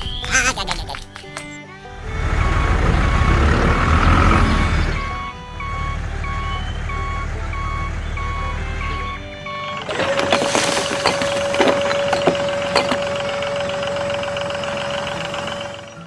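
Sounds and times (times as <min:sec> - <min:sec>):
engine-like rumble: 0:01.9 - 0:16.0
toy vehicle reversing beeper: 0:02.1 - 0:16.0.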